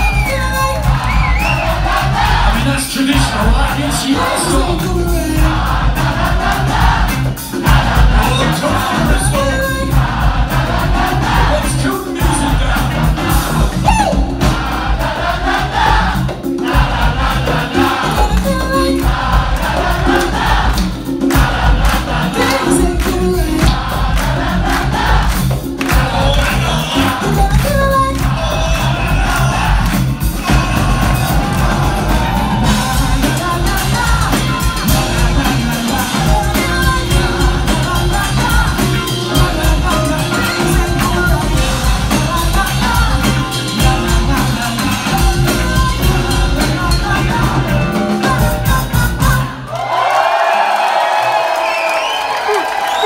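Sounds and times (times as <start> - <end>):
acid jazz band playing: 0.0 - 49.7
people singing into microphones: 0.0 - 49.7
congas: 0.0 - 53.0
crowd noise: 0.0 - 53.0
drum kit: 0.0 - 53.0.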